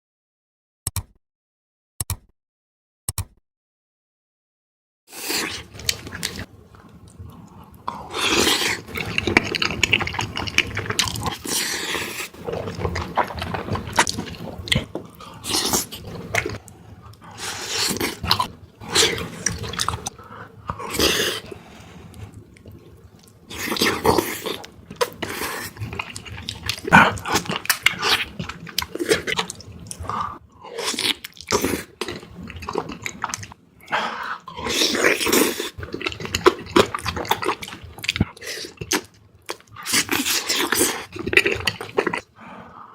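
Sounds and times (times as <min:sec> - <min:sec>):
close-miked chewing and biting: 0:05.2 - 0:42.4.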